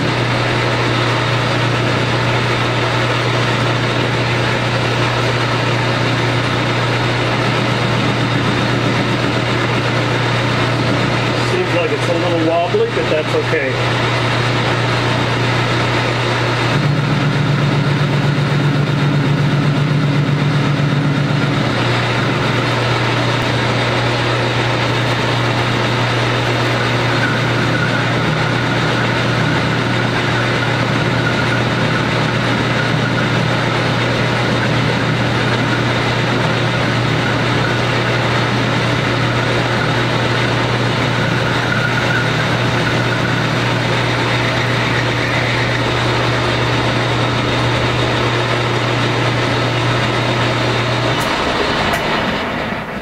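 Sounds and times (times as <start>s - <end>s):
deeper tone: 0.0s - 53.0s
metal lathe motor hum: 0.0s - 53.0s.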